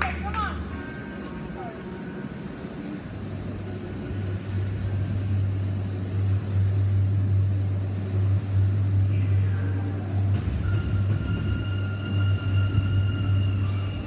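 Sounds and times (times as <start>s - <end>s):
rowing machine flywheel whirring: 0.6s - 14.0s.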